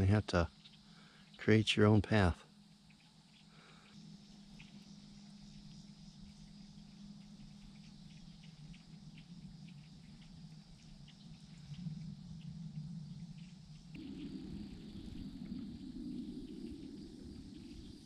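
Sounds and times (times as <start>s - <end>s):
high insect drone: 0.0s - 18.0s
low hum: 0.0s - 18.0s.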